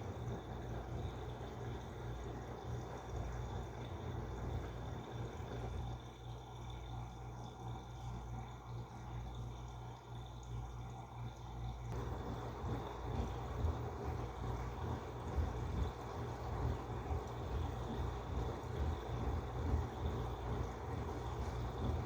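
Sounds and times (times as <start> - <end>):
washing machine hum: 0.0 - 22.0.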